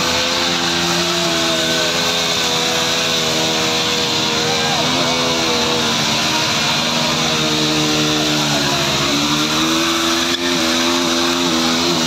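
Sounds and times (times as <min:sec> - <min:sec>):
motorcycle engine revving high: 0:00.0 - 0:12.0
spinning tyre hissing on road: 0:00.0 - 0:12.0.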